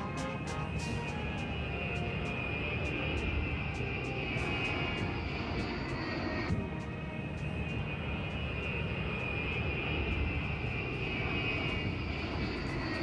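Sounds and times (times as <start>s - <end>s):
jet engines rumbling with high whine: 0.0s - 13.0s.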